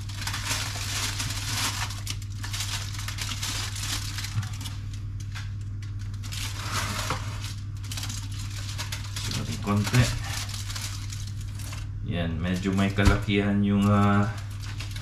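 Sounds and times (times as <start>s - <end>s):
aluminium foil crinkling: 0.0s - 15.0s
steady low hum: 0.0s - 15.0s.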